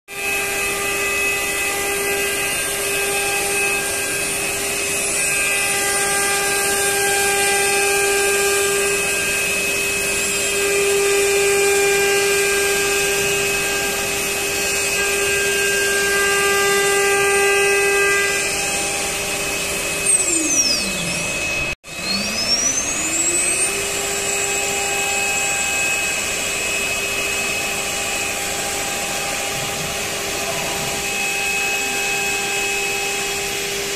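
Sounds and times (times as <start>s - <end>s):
router spindle whining: 0.1s - 33.9s.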